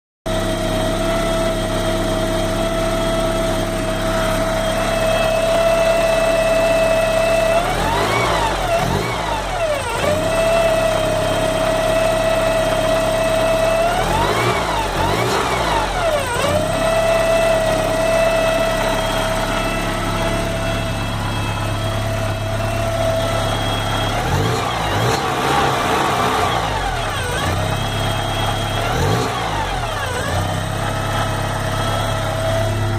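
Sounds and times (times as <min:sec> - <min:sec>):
car engine idling and revving: 0:00.3 - 0:32.9.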